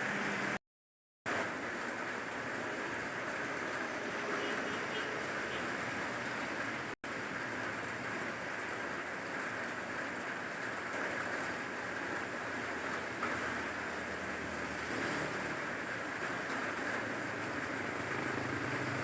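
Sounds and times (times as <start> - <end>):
steady rain hiss: 1.3 - 19.0.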